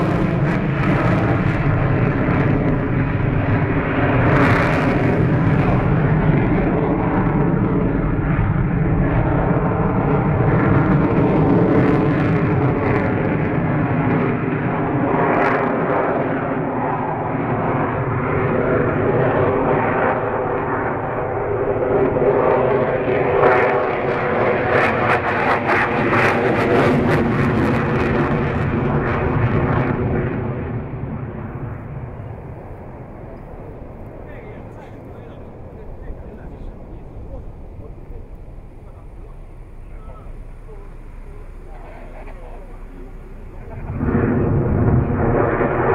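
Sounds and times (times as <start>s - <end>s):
jet engine crackle: 0.0s - 45.9s
jet engines rumbling and whining: 0.0s - 45.9s.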